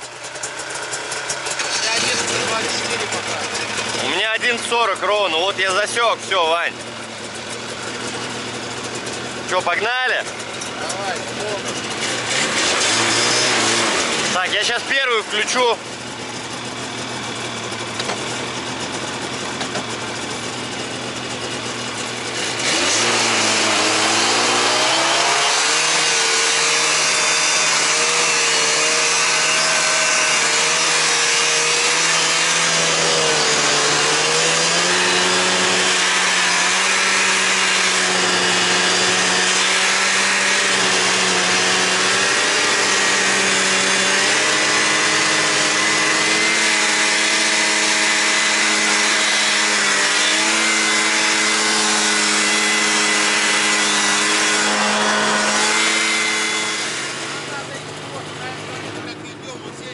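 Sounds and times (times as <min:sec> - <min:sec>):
snowmobile engine: 0:00.0 - 0:59.9.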